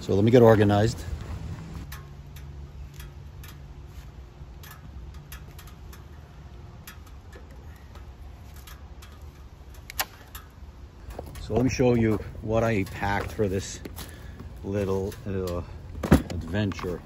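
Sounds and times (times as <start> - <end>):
light clicks and ticks: 0.0 - 15.9
low steady rumble: 0.0 - 17.0.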